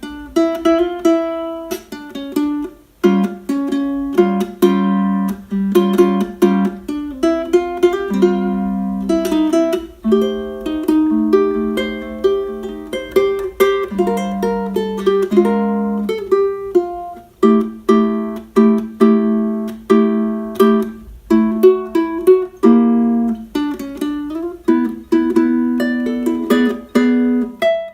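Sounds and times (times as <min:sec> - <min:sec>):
fingerpicked ukulele notes: 0:00.0 - 0:27.9.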